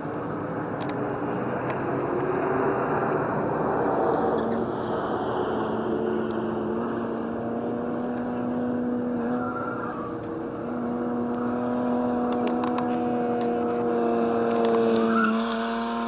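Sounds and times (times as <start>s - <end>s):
car engines at speed: 0.0s - 16.0s.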